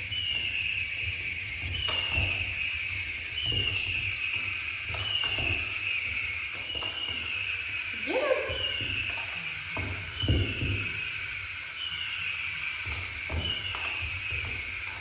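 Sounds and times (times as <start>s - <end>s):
electronic toy chirping: 1.7s - 14.7s.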